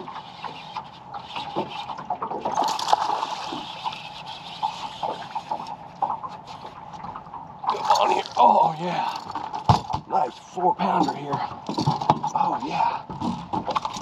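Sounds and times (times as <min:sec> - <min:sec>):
fish thrashing and splashing: 0:00.0 - 0:14.0.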